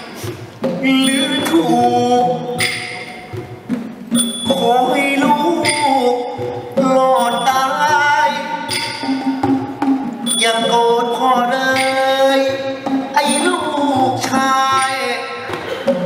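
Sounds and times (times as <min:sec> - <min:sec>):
traditional ensemble music: 0:00.0 - 0:16.0.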